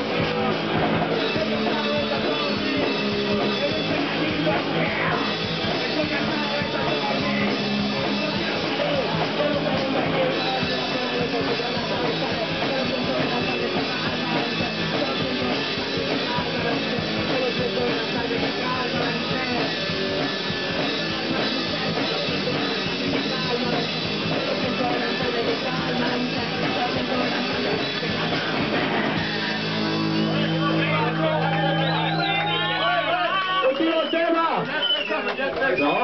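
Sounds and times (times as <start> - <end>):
distorted electric guitar: 0.0 - 36.0
fast drum kit: 0.0 - 36.0.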